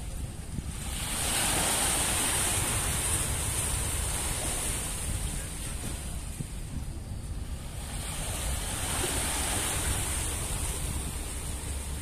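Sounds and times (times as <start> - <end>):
small waves washing ashore: 0.0 - 12.0
wind rumble on microphone: 0.0 - 12.0.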